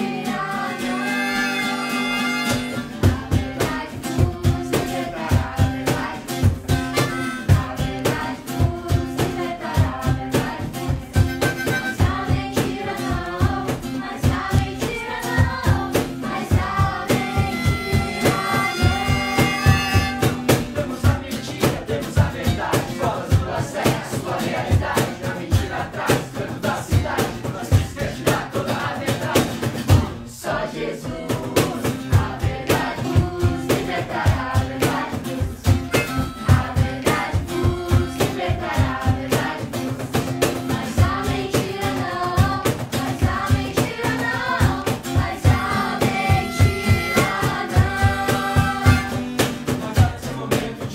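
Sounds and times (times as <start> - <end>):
people singing worship song: 0.0 - 50.9
steady drum beat: 2.4 - 30.3, 31.0 - 50.9.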